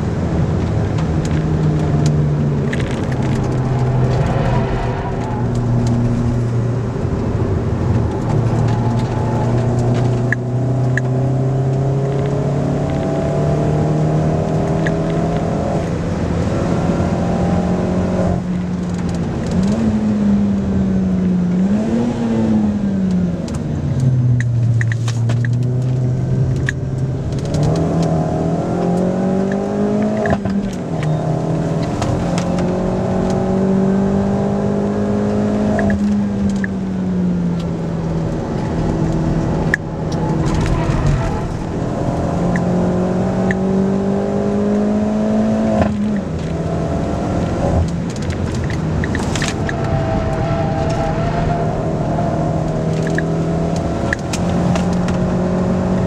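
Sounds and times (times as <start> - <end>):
car engine under hard driving: 0.0 - 56.0.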